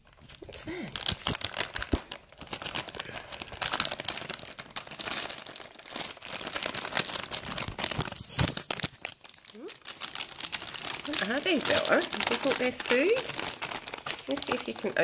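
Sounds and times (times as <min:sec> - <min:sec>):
plastic packets crinkling: 0:00.0 - 0:15.0.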